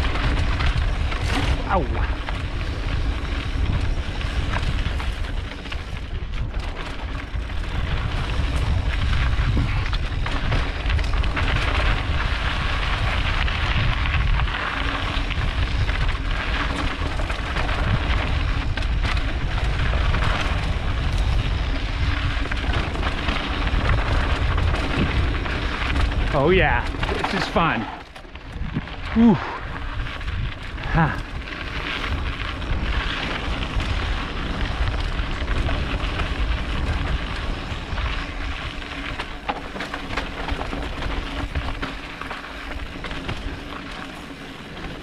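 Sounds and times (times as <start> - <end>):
bike rattling: 0.0 - 45.0
tyres crunching over gravel: 0.0 - 45.0
wind rumble on microphone: 0.0 - 45.0.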